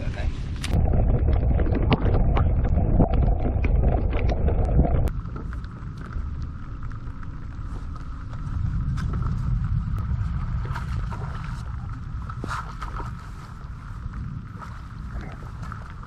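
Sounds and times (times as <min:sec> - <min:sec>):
quiet rumble: 0:00.0 - 0:16.0
wind buffeting microphone: 0:00.0 - 0:16.0.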